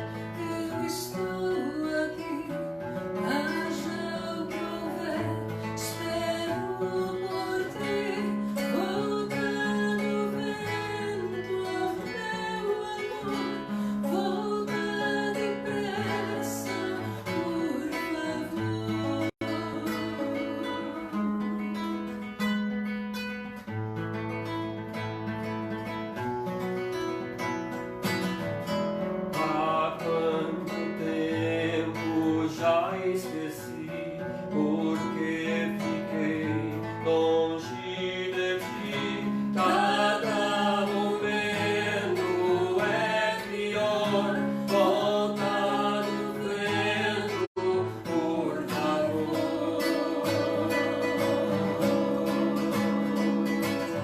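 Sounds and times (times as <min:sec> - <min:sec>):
person singing slow song: 0:00.0 - 0:02.6, 0:03.2 - 0:21.6, 0:29.4 - 0:54.0
acoustic guitar: 0:00.0 - 0:54.0.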